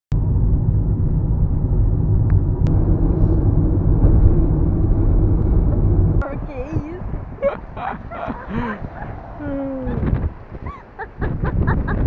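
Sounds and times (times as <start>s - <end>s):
car engine and tyre rumble: 0.1s - 12.0s.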